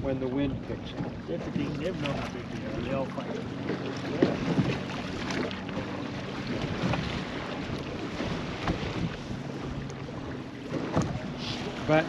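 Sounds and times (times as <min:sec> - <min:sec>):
boat motor humming: 0:00.0 - 0:12.0
waves slapping: 0:00.0 - 0:12.0
wind buffeting microphone: 0:00.0 - 0:12.0.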